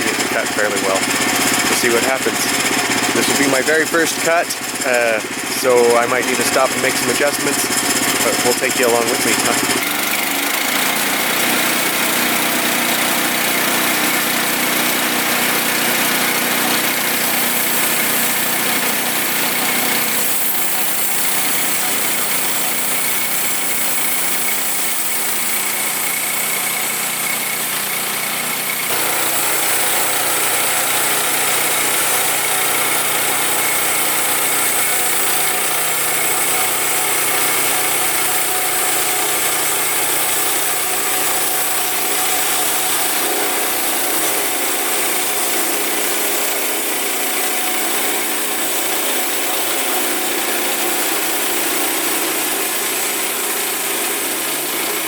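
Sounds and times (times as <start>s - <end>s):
sawmill engine and blade drone: 0.0s - 55.0s.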